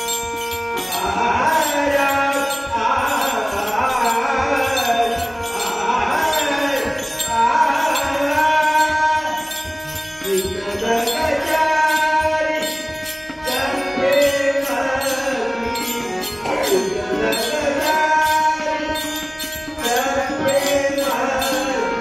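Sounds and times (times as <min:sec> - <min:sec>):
elderly man singing: 0:00.0 - 0:22.0.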